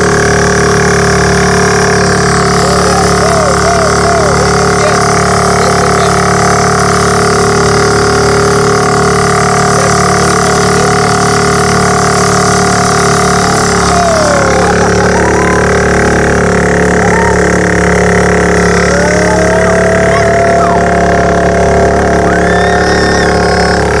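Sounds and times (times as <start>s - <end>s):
bumper boat motors running: 0.0s - 24.0s
voices calling out: 0.0s - 24.0s.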